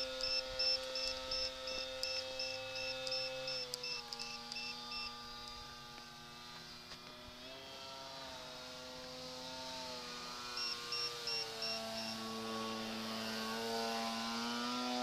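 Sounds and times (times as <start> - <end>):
rc plane motor whine: 0.0 - 15.0.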